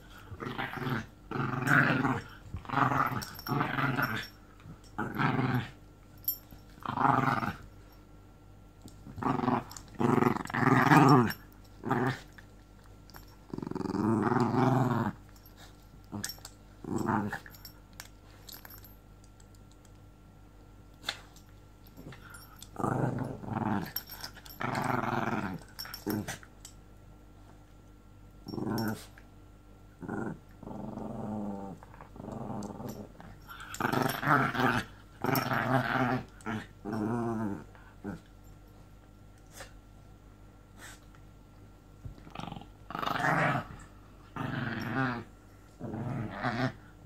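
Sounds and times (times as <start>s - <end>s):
dogs play-fighting and growling: 0.0s - 8.0s, 8.8s - 19.9s, 21.0s - 26.8s, 28.4s - 40.0s, 42.0s - 47.0s.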